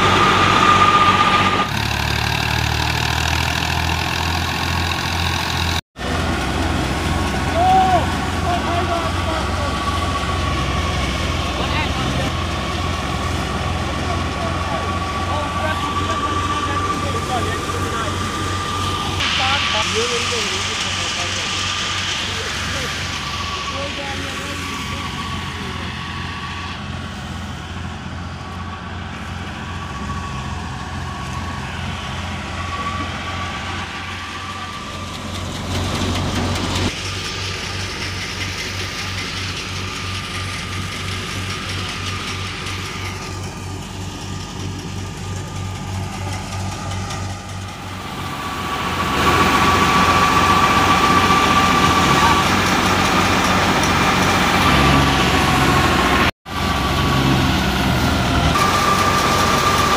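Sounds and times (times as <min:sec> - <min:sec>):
thresher high whine: 0:00.0 - 0:59.9
tractor diesel engine drone: 0:00.0 - 0:59.9.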